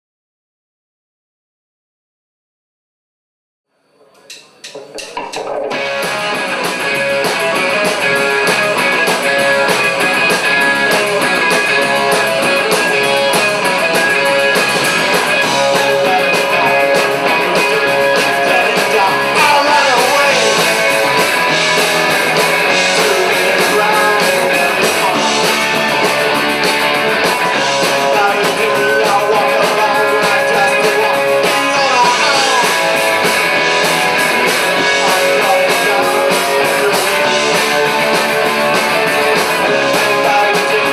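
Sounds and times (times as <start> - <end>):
drum kit: 4.1 - 40.9
electric guitars: 4.1 - 40.9.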